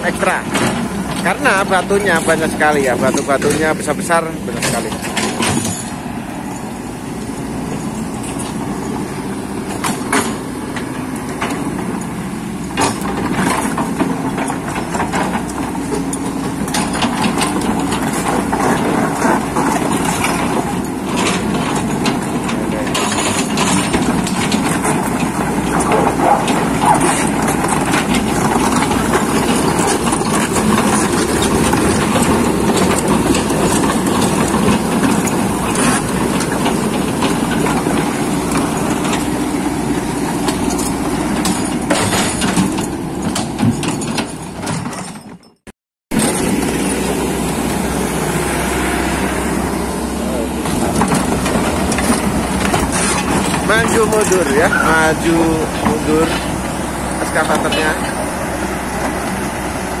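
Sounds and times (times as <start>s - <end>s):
knocks and clatter on rocky ground: 0.0s - 48.9s, 50.2s - 60.0s
excavator diesel engine running: 0.0s - 60.0s.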